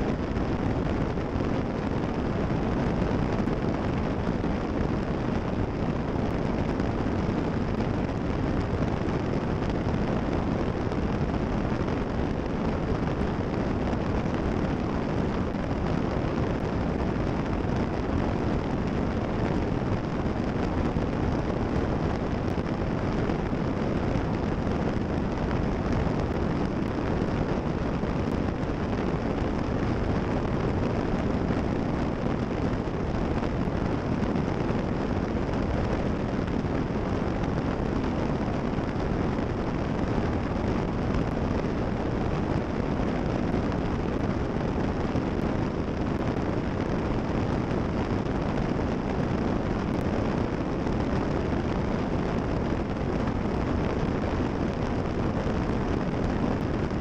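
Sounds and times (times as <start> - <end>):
rushing airflow: 0.0 - 57.0.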